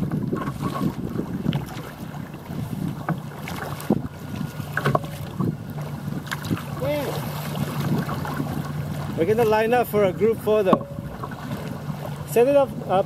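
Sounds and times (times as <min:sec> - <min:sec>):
rumble of choppy water: 0:00.0 - 0:13.0
small waves slapping hull: 0:00.0 - 0:13.0
wind buffeting microphone: 0:00.0 - 0:13.0.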